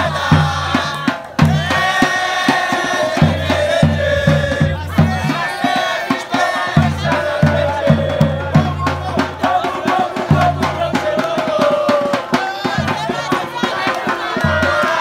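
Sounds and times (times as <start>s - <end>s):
bass drum beats: 0.0s - 15.0s
fast percussion strikes: 0.0s - 15.0s
football supporters chanting: 0.0s - 15.0s.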